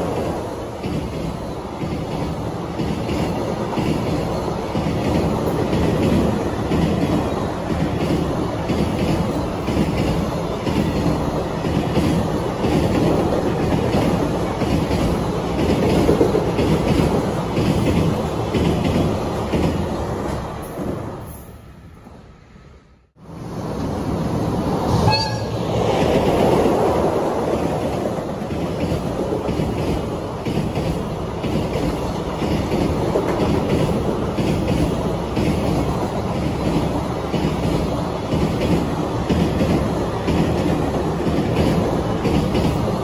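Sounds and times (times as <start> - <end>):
train wheels clattering over rail joints: 0.0 - 20.0, 25.9 - 43.0.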